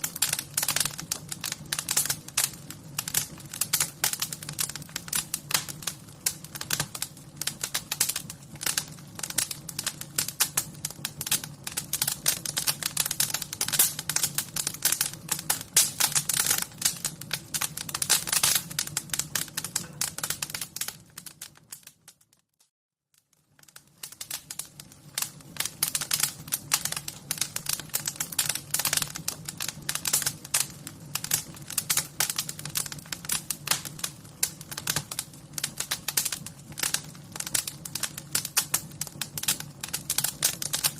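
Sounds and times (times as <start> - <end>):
wood fire crackling: 0.0 - 22.5, 23.1 - 40.9.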